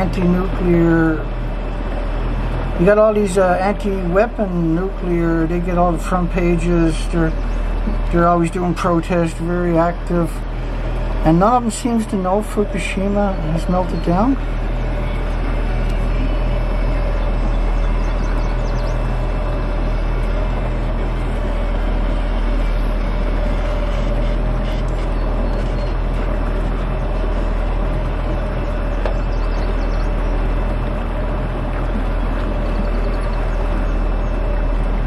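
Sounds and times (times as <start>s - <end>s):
boat motor droning: 0.0s - 35.0s.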